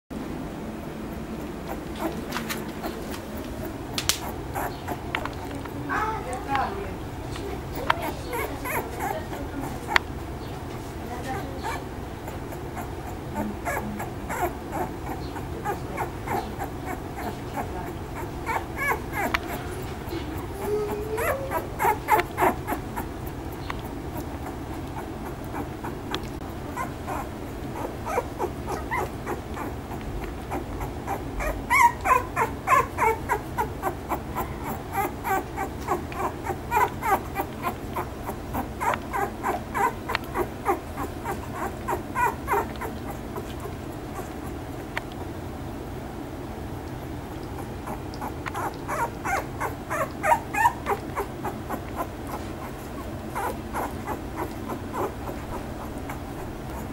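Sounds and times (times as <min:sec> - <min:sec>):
puppies whimpering and squeaking: 0:01.0 - 0:45.5, 0:46.7 - 0:56.9.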